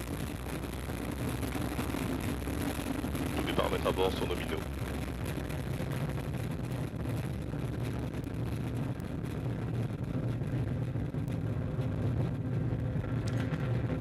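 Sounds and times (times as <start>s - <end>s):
rocket engines rumbling: 0.0s - 14.0s.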